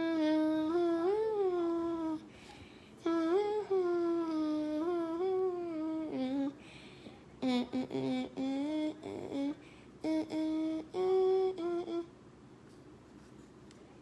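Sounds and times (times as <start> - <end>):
person humming: 0.0 - 12.1.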